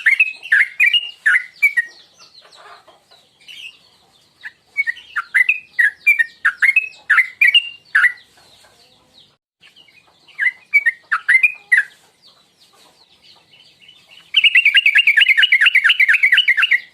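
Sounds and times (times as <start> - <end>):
bird chirping: 0.0 - 16.9.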